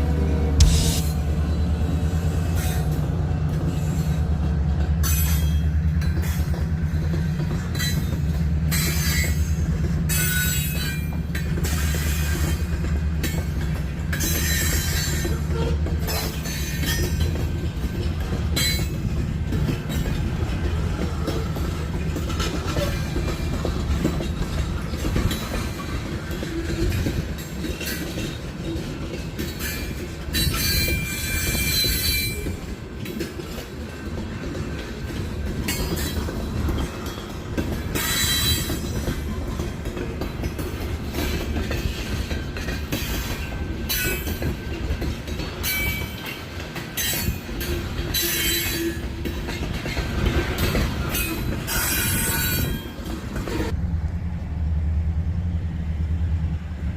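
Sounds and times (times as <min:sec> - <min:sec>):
train cars rumbling past: 0:00.0 - 0:56.9
wheel clatter: 0:04.8 - 0:53.8.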